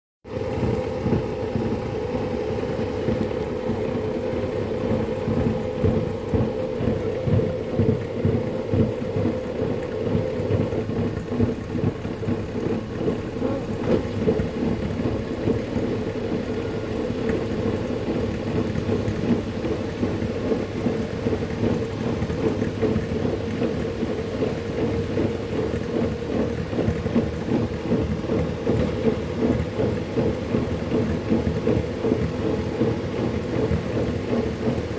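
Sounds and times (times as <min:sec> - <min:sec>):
laundry and water splashing in drum: 0:00.2 - 0:34.9
washing machine hum: 0:00.2 - 0:34.9.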